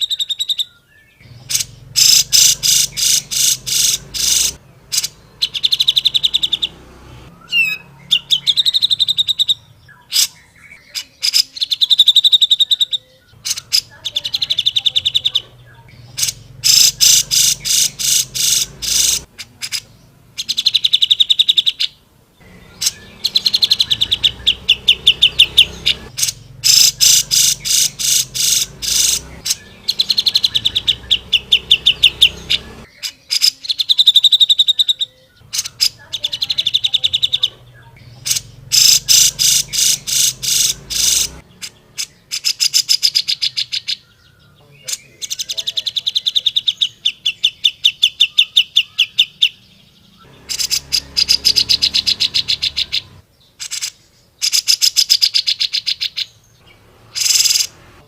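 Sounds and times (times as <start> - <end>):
bird harsh chattering song: 0.0 - 58.0.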